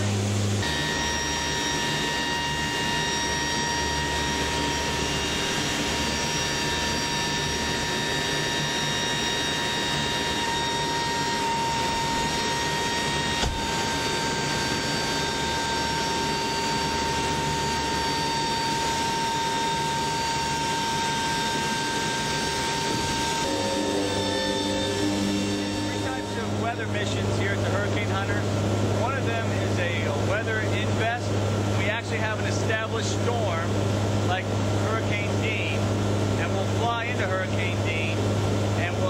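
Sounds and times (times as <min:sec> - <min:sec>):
aircraft engines droning: 0:00.0 - 0:39.0.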